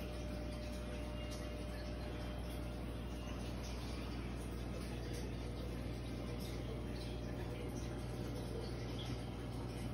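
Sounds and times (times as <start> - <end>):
low electrical hum: 0.0 - 9.9.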